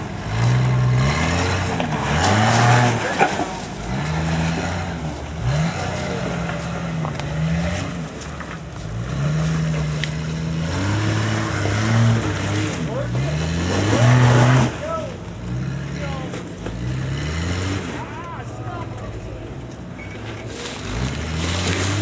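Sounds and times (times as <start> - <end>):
engine revving: 0.0 - 19.0, 20.5 - 22.0.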